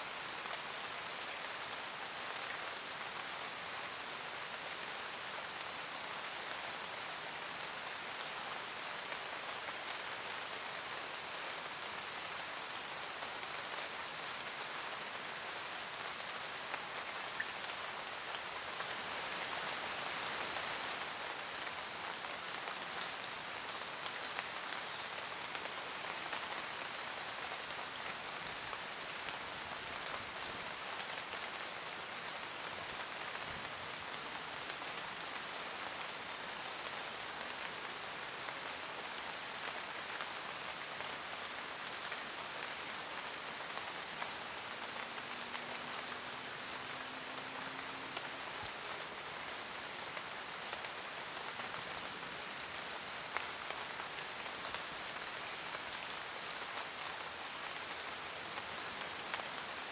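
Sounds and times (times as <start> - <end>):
rain pattering on leaves: 0.0 - 59.9.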